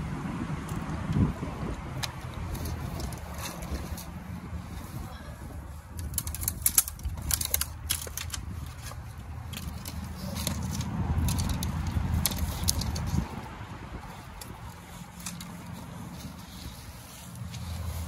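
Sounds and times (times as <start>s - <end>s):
wind rumbling on microphone: 0.0s - 18.0s
dry sticks clicking and crackling: 0.6s - 18.0s.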